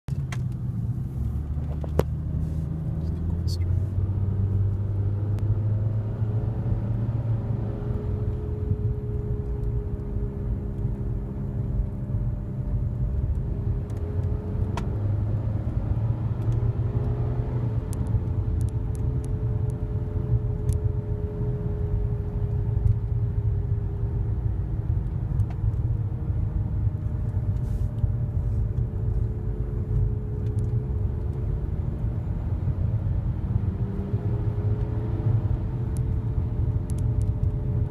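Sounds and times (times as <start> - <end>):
low road rumble: 0.0 - 37.9.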